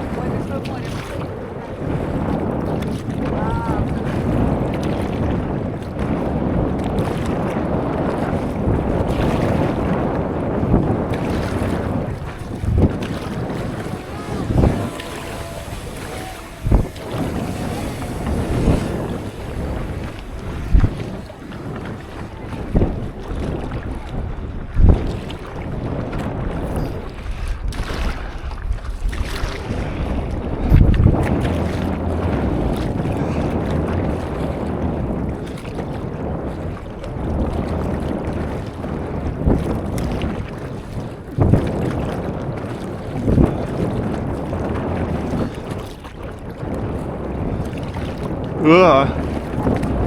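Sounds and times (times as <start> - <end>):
water sloshing around paddleboard: 0.0 - 50.0
wind buffeting microphone: 0.0 - 50.0.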